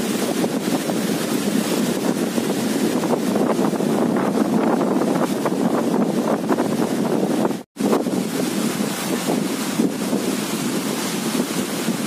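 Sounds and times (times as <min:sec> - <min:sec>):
wind buffeting microphone: 0:00.0 - 0:12.0
wind rustling tree leaves: 0:00.0 - 0:12.0.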